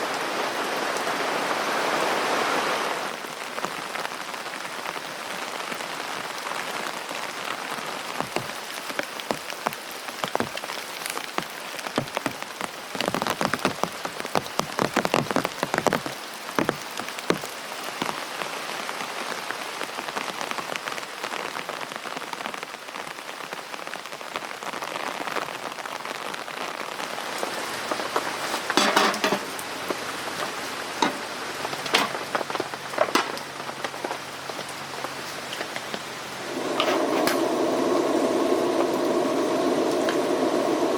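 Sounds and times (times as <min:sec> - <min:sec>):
rain falling on a tent: 0:00.0 - 0:40.9.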